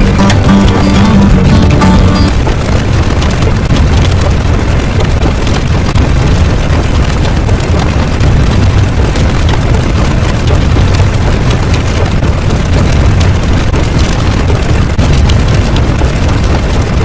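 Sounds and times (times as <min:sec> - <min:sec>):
dense rumbling noise: 0:00.0 - 0:17.0.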